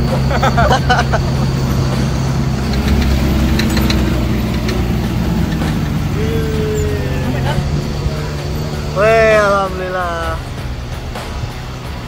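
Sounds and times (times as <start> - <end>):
jeep engine driving slowly: 0.0 - 12.0
voices: 0.0 - 12.0.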